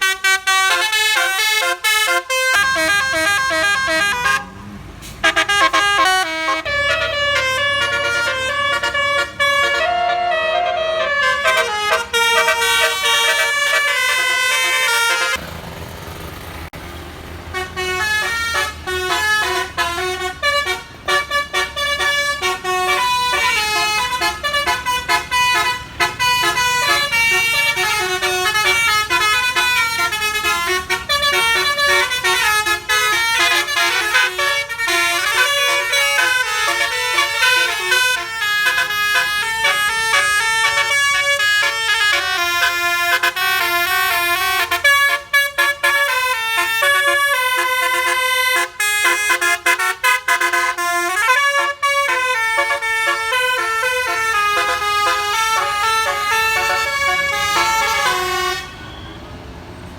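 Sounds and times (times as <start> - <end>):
musical air horns playing melodies: 0.0 - 15.4, 17.5 - 59.0
engine and road noise rumble: 0.0 - 59.9.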